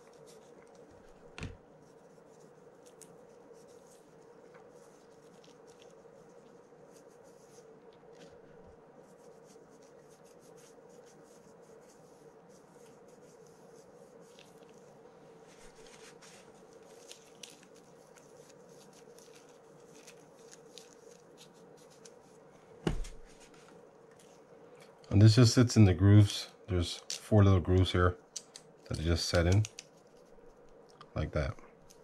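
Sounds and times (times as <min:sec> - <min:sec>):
fingers rustling and ticking: 0:00.0 - 0:08.4, 0:09.0 - 0:25.2, 0:26.9 - 0:32.0
faint steady hum: 0:00.0 - 0:32.0.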